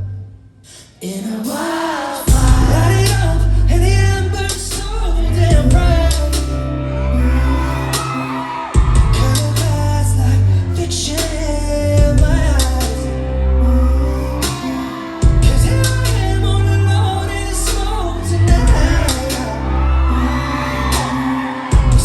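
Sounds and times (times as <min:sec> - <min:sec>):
person singing: 0:00.0 - 0:22.0
loud pop song with heavy bass: 0:00.7 - 0:22.0.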